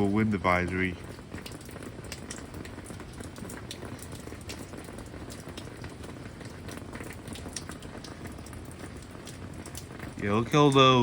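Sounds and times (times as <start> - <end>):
heavy rain: 0.0 - 11.0
raindrops ticking on hard surface: 0.0 - 11.0.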